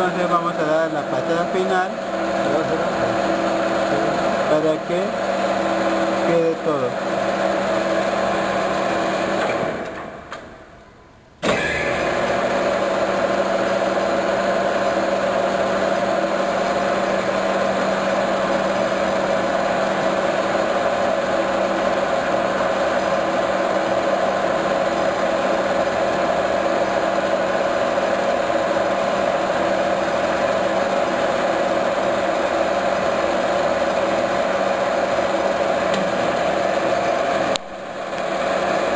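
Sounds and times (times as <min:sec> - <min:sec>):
metal lathe running: 0:00.0 - 0:10.0, 0:11.4 - 0:38.9.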